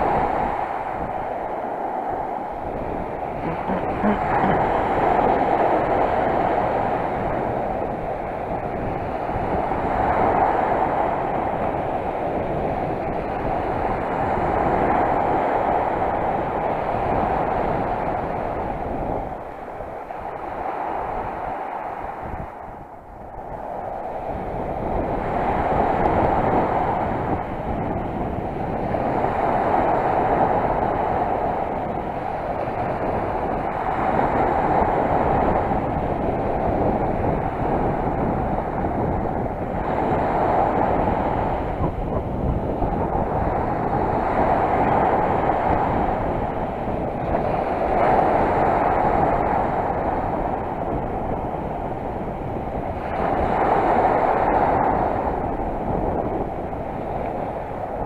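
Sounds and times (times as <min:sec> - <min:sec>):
sea surf washing on shore: 0:00.0 - 0:58.0.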